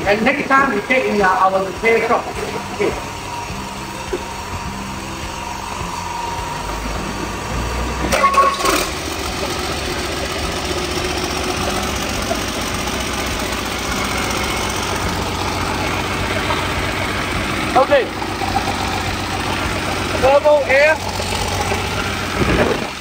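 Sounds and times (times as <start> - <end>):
diesel engine starting and idling: 0.0 - 23.0.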